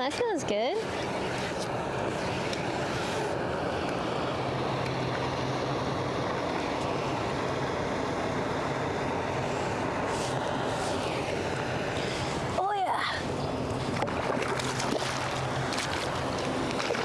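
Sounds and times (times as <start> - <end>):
motorboat engine droning: 0.0 - 17.0
water noise: 0.0 - 17.0
wind: 0.0 - 17.0.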